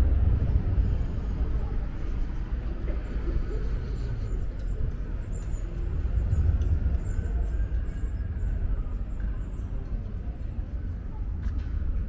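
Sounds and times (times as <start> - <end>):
low rumble of city ambience: 0.0 - 12.0.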